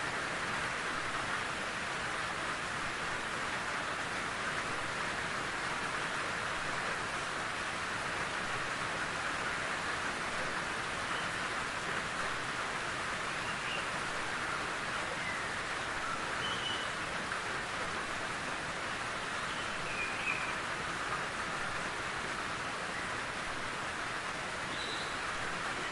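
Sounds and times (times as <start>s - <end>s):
steady rain in forest: 0.0s - 25.9s.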